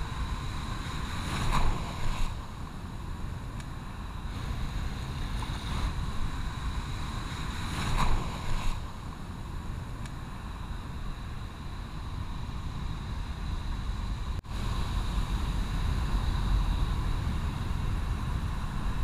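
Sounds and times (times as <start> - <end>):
surf washing over rocks: 0.0 - 19.0
wind buffeting microphone: 0.0 - 19.0.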